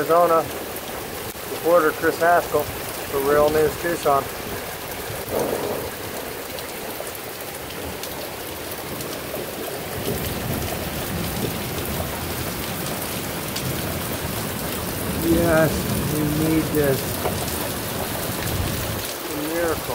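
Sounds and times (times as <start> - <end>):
heavy rain falling: 0.0 - 19.9
raindrops ticking close by: 0.0 - 19.9.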